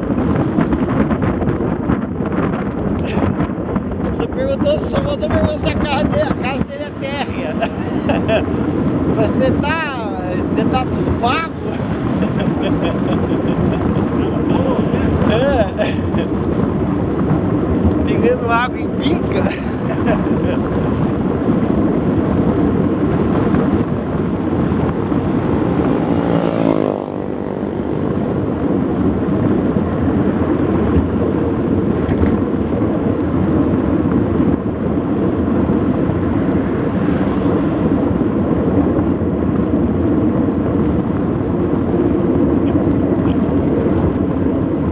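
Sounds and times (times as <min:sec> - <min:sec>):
wind rushing on camera: 0:00.0 - 0:44.9.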